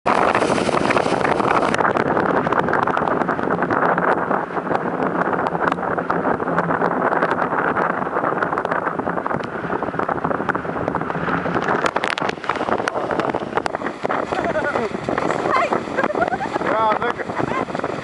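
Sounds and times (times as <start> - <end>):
water splashing along hulls: 0.0 - 18.0
wind buffeting microphone: 0.0 - 18.0.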